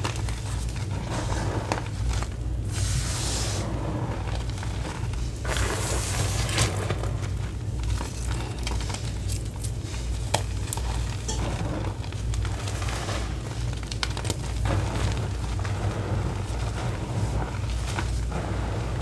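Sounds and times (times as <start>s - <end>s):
hands crunching powder: 0.0s - 19.0s
steady low hum: 0.0s - 19.0s.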